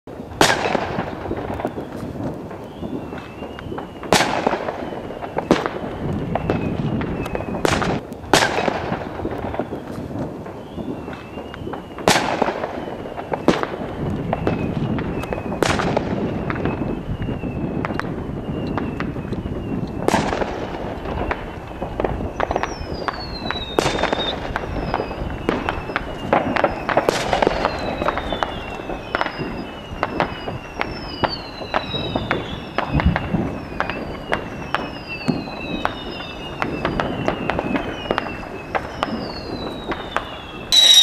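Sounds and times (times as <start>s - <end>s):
fireworks bangs and pops: 0.0s - 41.0s
whistling fireworks: 0.1s - 41.0s.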